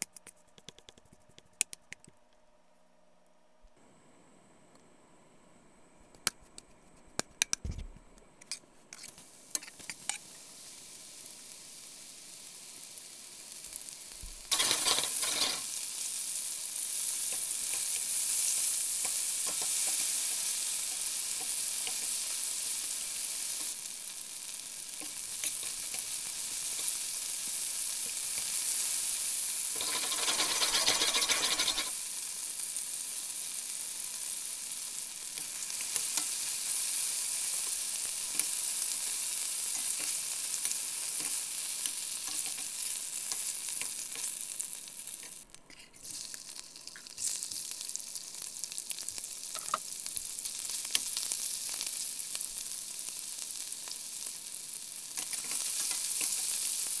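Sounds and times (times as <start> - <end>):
chicken frying in hot oil: 9.0 - 57.0.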